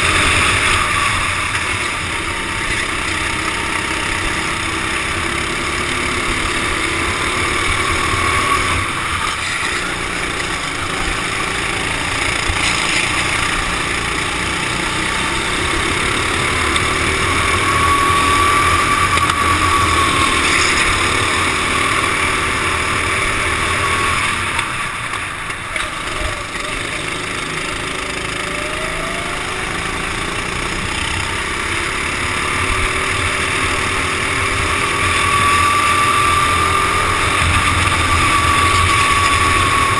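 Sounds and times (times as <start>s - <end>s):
kart engine running hard: 0.0s - 39.9s
other karts passing: 0.0s - 39.9s.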